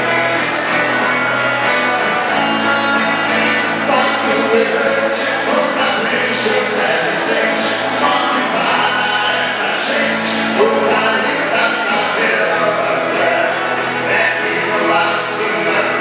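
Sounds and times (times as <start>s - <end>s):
strummed acoustic guitars: 0.0s - 16.0s
two men singing: 0.0s - 16.0s.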